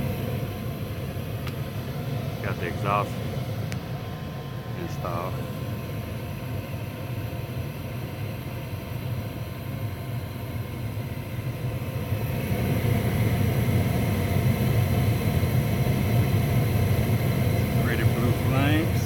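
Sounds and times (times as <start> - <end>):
faint steady hum: 0.0 - 19.0
furnace rumble and whir: 0.0 - 19.0.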